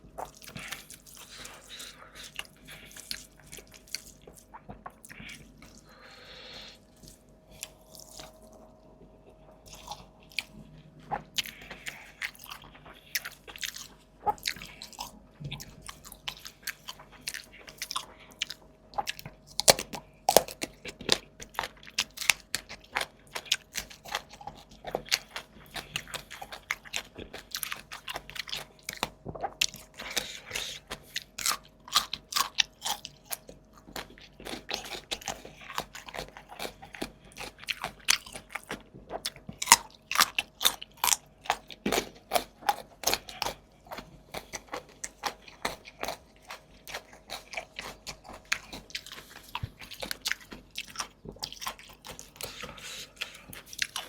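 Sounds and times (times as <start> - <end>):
mouth chewing crunchy food: 0.0 - 54.0.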